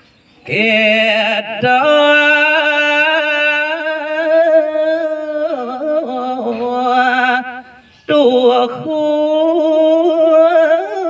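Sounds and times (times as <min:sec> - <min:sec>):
man singing into a microphone: 0:00.4 - 0:11.0.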